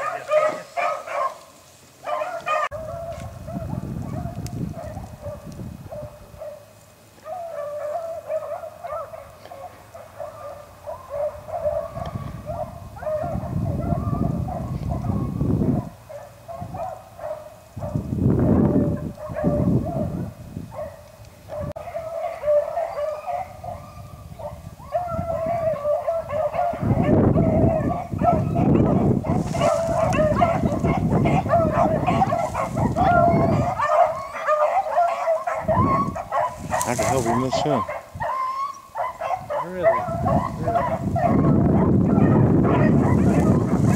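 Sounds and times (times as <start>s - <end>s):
hounds baying and yelping: 0.0s - 43.9s.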